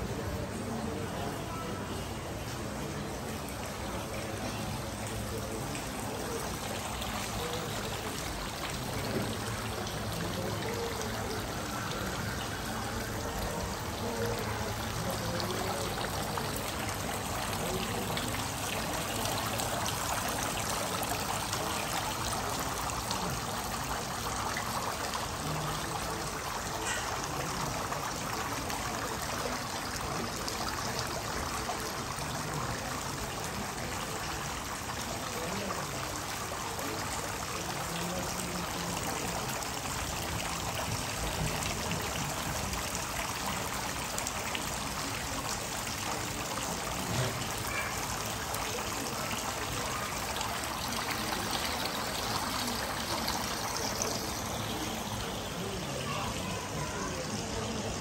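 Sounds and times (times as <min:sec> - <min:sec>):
fountain water trickling: 0:00.0 - 0:58.0.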